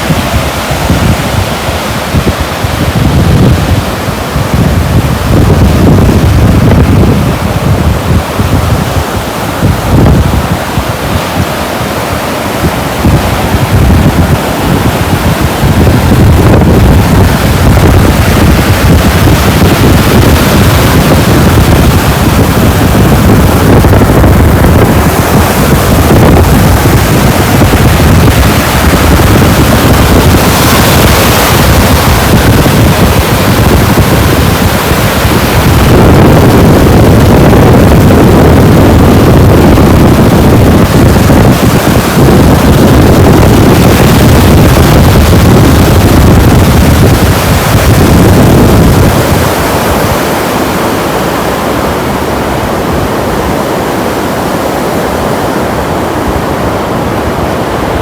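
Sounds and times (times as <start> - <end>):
rushing water: 0.0 - 58.0
wind buffeting microphone: 0.0 - 58.0.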